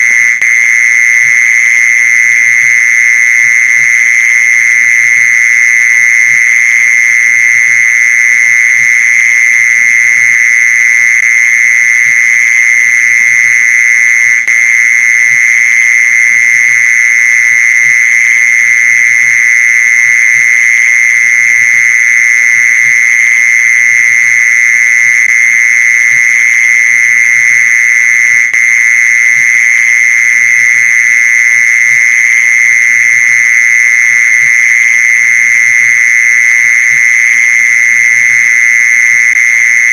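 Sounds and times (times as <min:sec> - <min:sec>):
mole cricket trill: 0:00.0 - 0:39.9.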